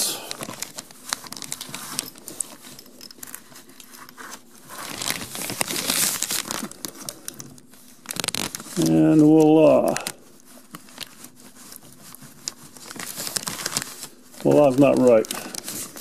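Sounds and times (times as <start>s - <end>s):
packing material rustling: 0.0s - 16.0s.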